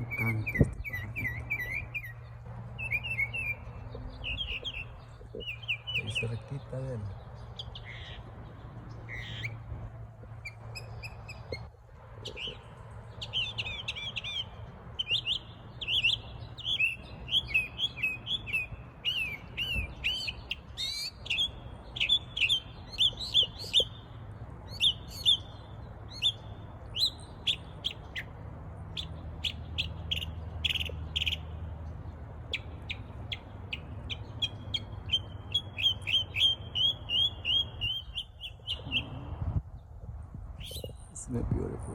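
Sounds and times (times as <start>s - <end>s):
songbird singing trills: 0.0s - 39.9s, 40.6s - 41.3s.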